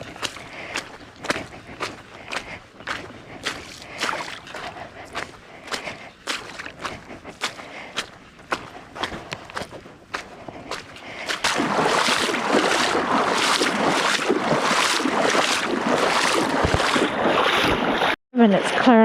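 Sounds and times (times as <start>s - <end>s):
feet wading through shallow water: 0.0s - 18.2s
footsteps: 0.0s - 18.2s.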